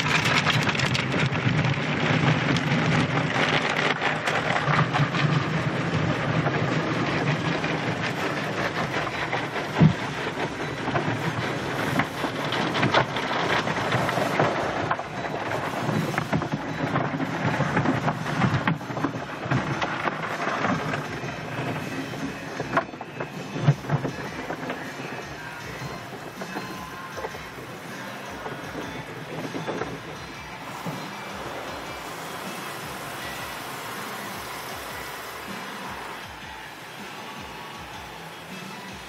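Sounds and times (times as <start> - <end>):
washing equipment beating on car: 0.0 - 39.0
water spraying in car wash: 0.0 - 39.0.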